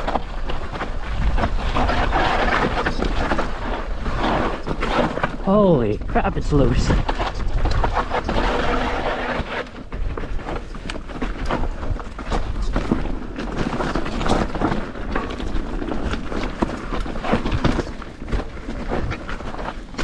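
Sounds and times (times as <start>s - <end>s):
bike knocking and rattling: 0.0s - 5.8s, 6.9s - 20.0s
tyres crunching on loose dirt: 0.0s - 20.0s.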